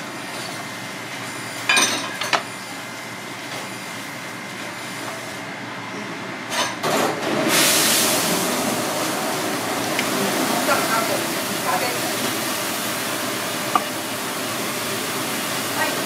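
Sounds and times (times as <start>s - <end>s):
background kitchen noise: 0.0s - 16.0s.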